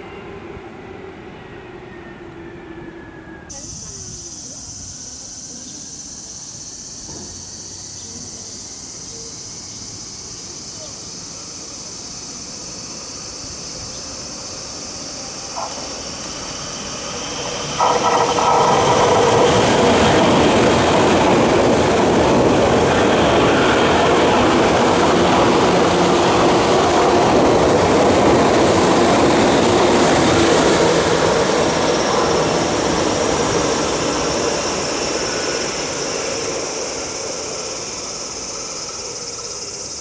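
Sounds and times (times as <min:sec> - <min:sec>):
electric train running: 0:03.5 - 0:40.0.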